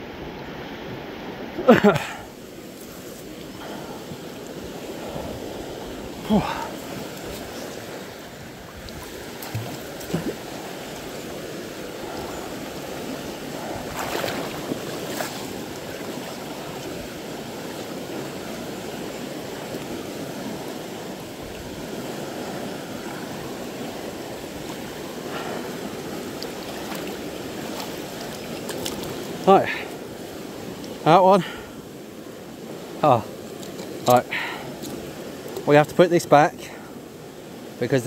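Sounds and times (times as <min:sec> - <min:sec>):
rushing water: 0:00.0 - 0:38.0.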